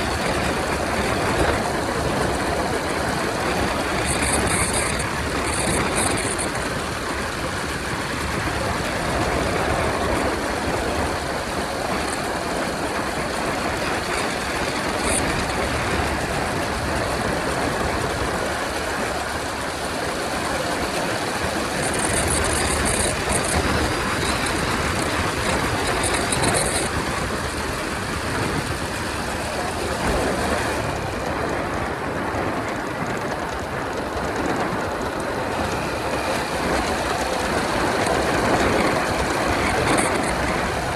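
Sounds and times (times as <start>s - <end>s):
motorcycle engine: 0.0s - 40.9s
road noise: 0.0s - 40.9s.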